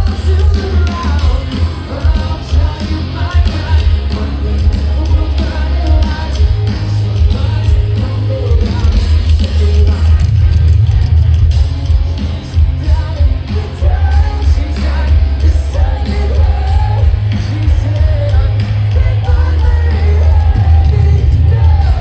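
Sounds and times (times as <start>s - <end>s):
person singing: 0.0s - 10.9s, 12.4s - 22.0s
live rock band playing: 0.0s - 22.0s.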